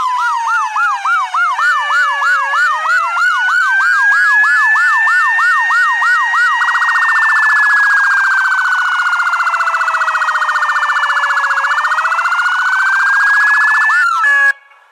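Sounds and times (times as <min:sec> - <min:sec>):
electronic emergency siren: 0:00.0 - 0:14.6.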